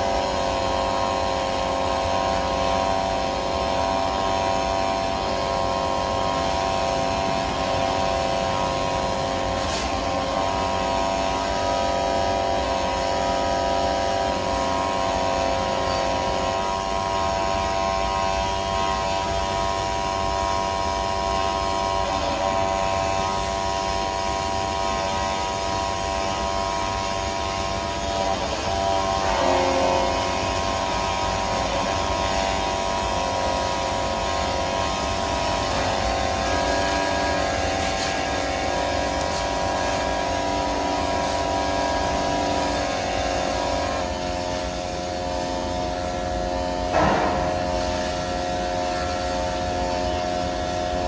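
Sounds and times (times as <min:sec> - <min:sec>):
welding arc buzzing hum: 0:00.0 - 0:51.0.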